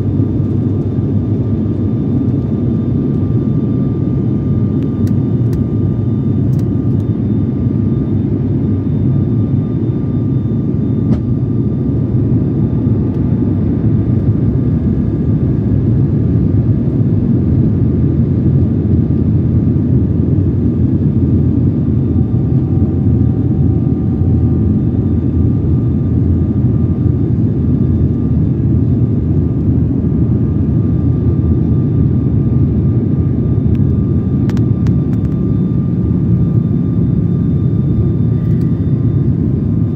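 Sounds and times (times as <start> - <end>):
airliner engine roar in cabin: 0.0 - 39.9
faint engine whine: 0.0 - 39.9.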